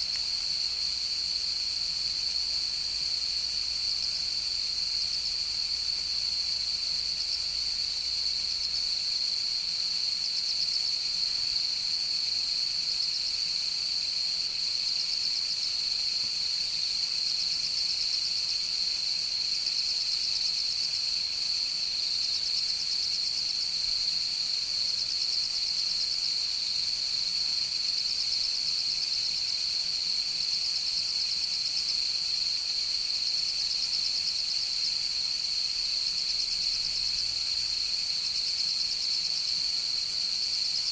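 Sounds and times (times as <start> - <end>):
insect trill: 0.0 - 40.9
insects chirping: 0.0 - 40.9.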